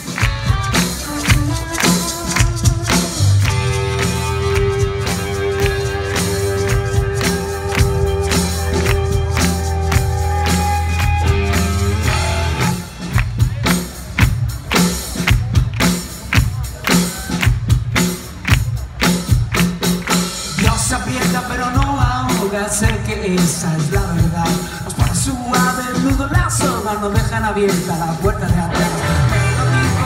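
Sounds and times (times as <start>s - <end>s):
drums driving beat: 0.0s - 30.0s
rock band playing live: 0.0s - 30.0s.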